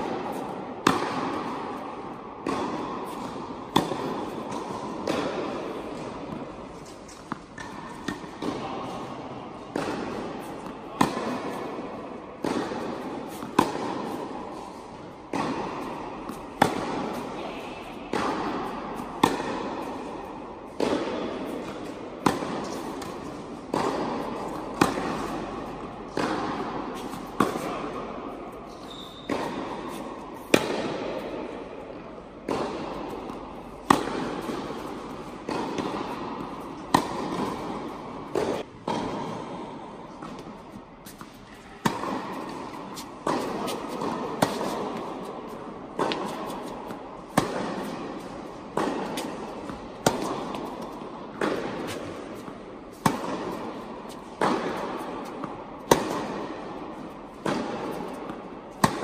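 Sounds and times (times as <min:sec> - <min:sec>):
rackets striking tennis ball: 0:00.0 - 0:59.0.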